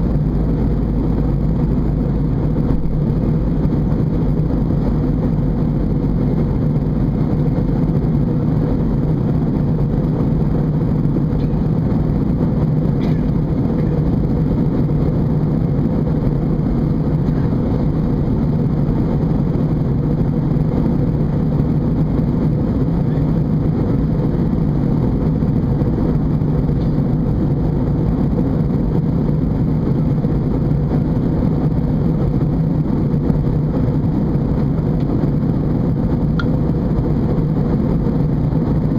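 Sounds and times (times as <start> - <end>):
airplane cabin engine drone: 0.0 - 38.9
low hum: 0.0 - 38.9.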